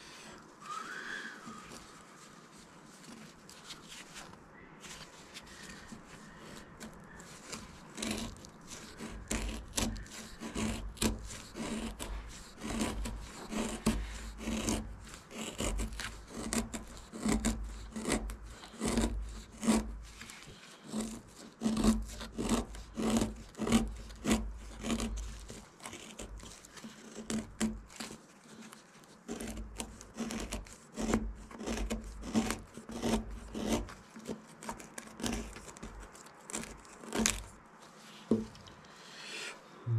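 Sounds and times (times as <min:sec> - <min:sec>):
knife scraping wood: 0:00.0 - 0:39.1.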